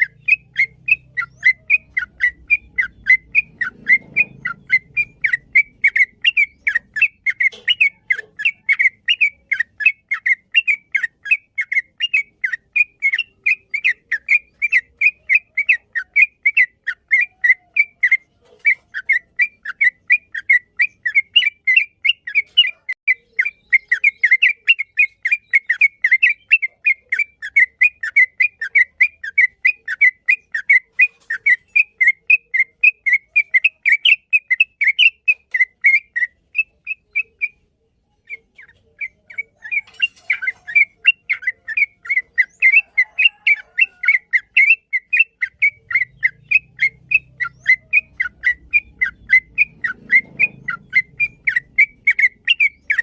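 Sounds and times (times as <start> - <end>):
bird singing whistled notes: 0.0 - 53.0.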